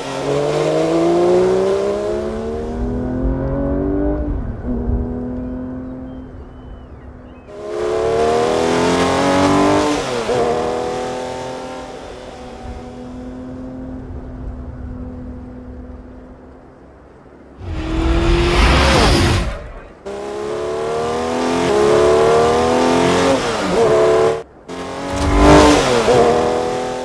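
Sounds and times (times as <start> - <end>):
car engine revving: 0.0 - 6.2, 7.5 - 13.8, 17.6 - 27.0.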